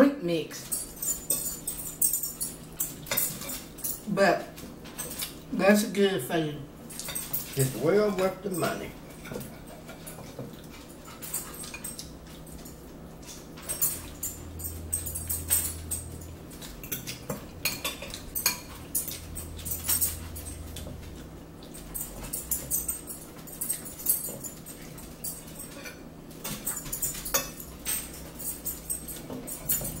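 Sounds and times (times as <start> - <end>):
fork clinking and scraping bowl: 0.8 - 4.0, 6.9 - 30.0.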